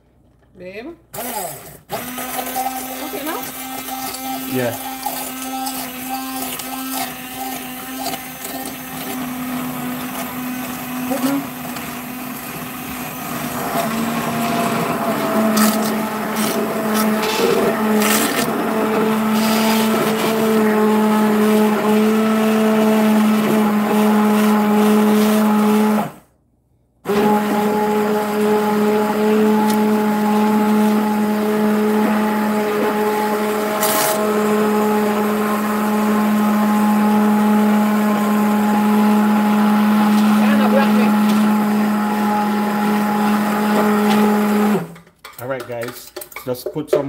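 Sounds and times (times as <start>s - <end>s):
immersion blender motor hum: 1.2s - 26.2s, 27.1s - 45.0s.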